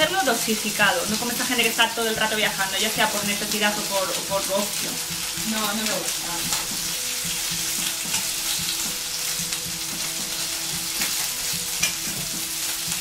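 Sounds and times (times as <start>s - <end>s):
food sizzling in pan: 0.0s - 13.0s.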